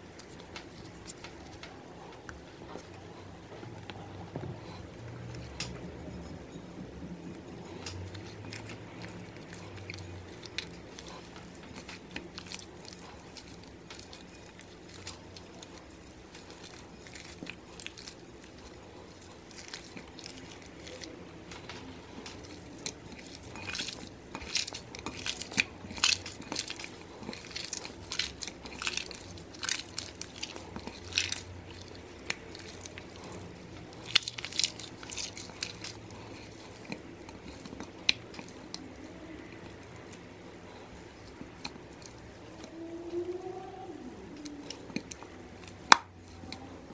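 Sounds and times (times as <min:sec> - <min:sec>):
slime squelching: 0:00.0 - 0:46.9.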